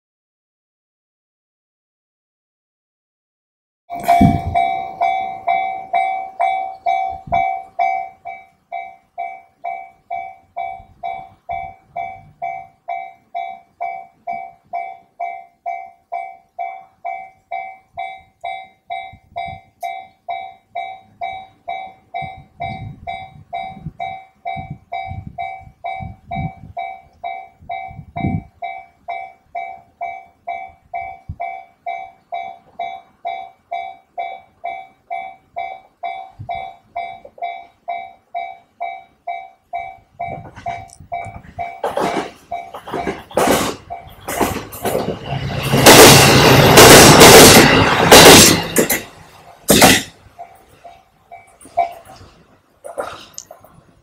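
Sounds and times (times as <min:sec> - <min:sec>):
railway crossing bell ringing: 0:03.9 - 0:52.5.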